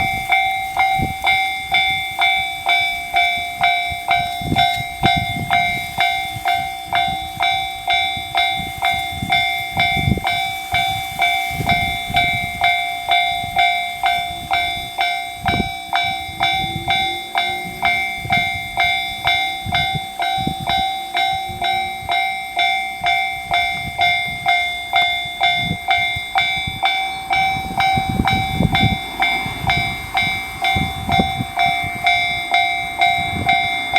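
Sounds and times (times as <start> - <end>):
level crossing bell ringing: 0.0 - 33.9
low rumbling: 0.0 - 33.9.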